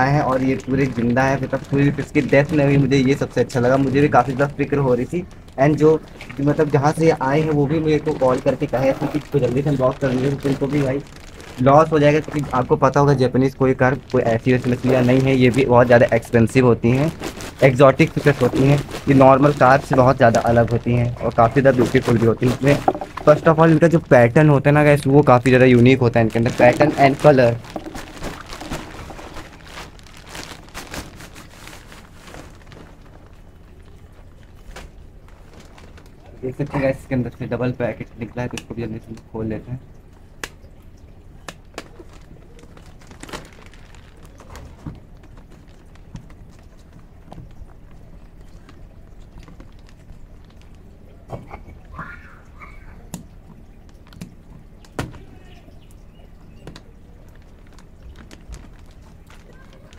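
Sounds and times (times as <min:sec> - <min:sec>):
plastic bag crinkling: 0:00.0 - 0:39.2, 0:39.9 - 0:59.9.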